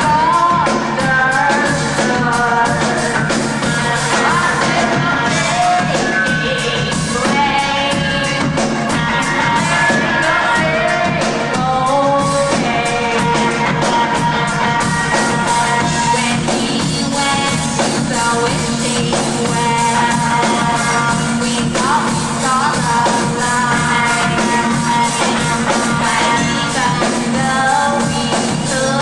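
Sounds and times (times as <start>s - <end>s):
drum kit: 0.0s - 29.0s
woman singing: 0.0s - 29.0s.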